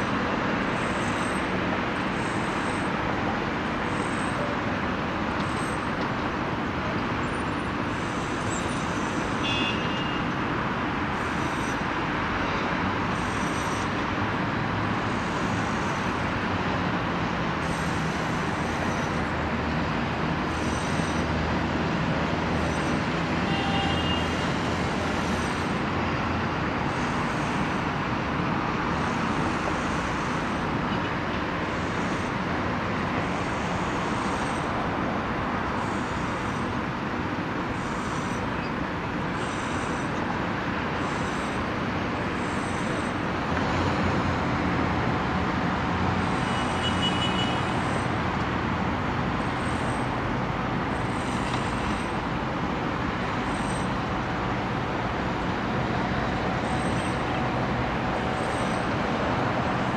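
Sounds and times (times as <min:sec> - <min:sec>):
distant city traffic roar: 0:00.0 - 0:59.9.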